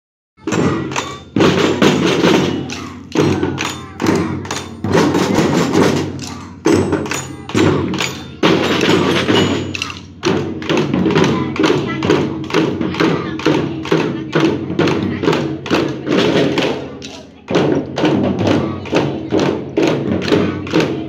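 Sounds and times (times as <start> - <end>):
marching drums beating: 0.4 - 21.0.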